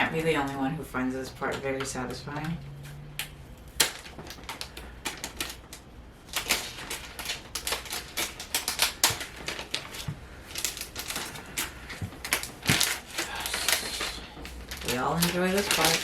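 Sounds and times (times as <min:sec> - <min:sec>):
adhesive tape peeling: 0:02.7 - 0:16.0.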